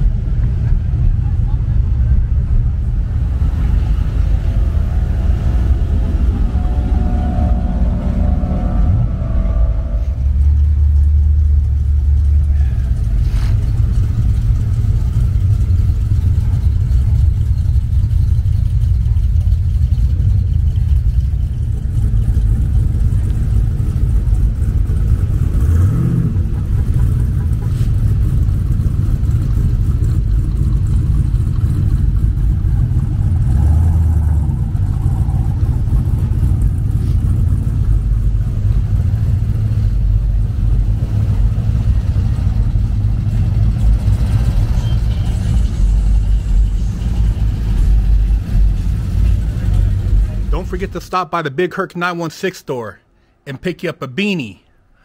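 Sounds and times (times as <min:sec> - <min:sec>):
car engine revving: 0:00.0 - 0:50.9
car engines rumbling low: 0:00.0 - 0:51.8.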